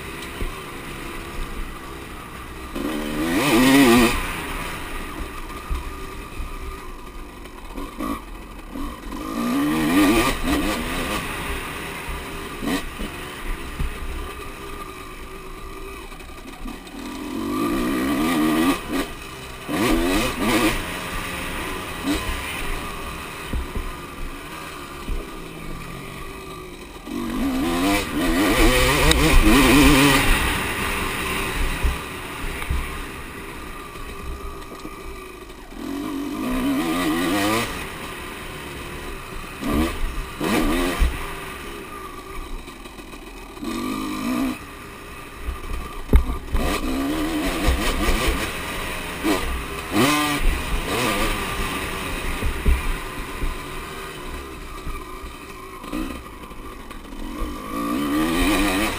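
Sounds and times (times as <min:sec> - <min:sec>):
motocross bikes racing past: 0:00.0 - 0:07.0, 0:07.7 - 0:58.9.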